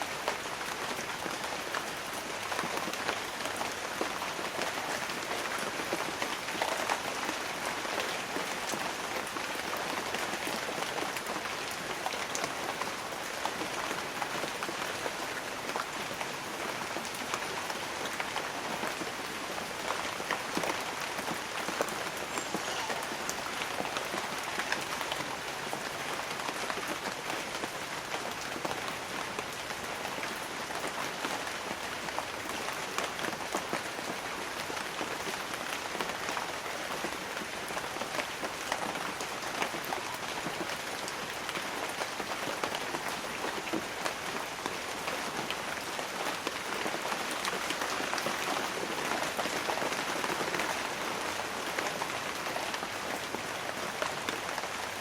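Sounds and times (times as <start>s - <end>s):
light rain pattering on leaves: 0.0s - 55.0s.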